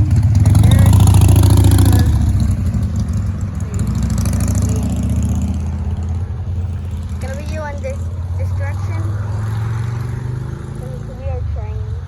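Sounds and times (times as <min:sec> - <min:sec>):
car driving past: 0:00.0 - 0:11.2.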